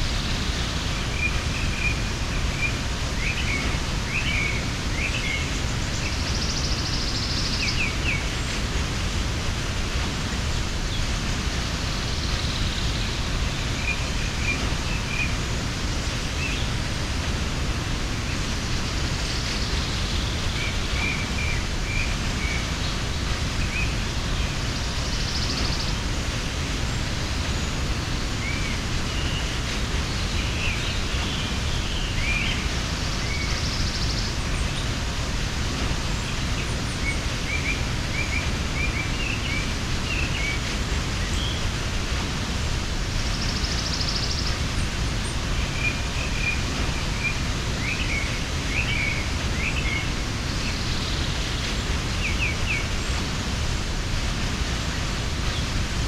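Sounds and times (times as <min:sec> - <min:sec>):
waterfall rushing: 0:00.0 - 0:56.0
small birds chirping: 0:00.1 - 0:56.0.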